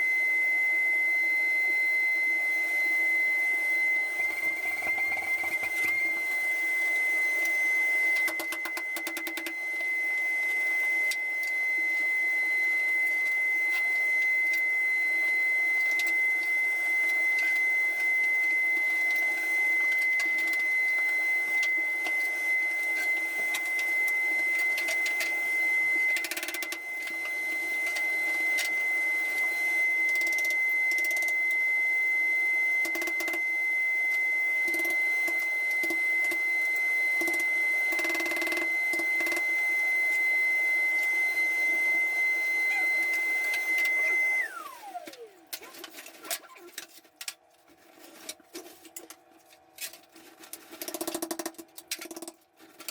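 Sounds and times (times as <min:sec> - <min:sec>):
small electric motor whining: 0:02.2 - 0:46.9.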